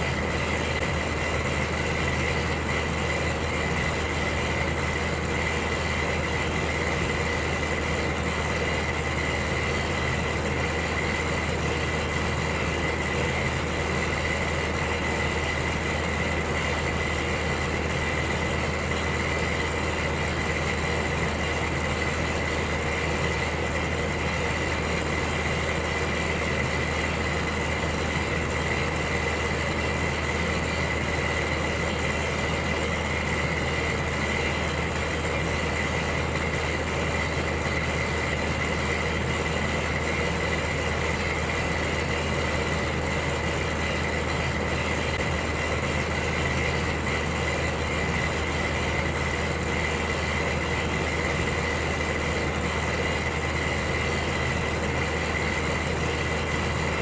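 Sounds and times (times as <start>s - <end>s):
electric heater humming and rushing: 0.0s - 57.0s.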